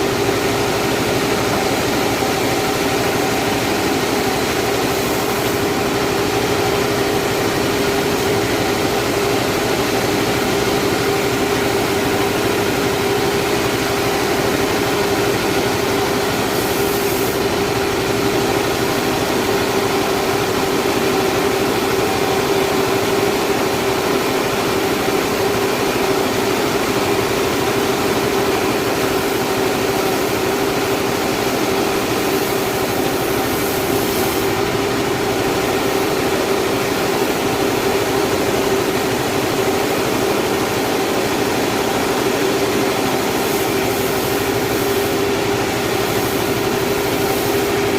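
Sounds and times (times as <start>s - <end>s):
sawmill saw running: 0.0s - 47.9s.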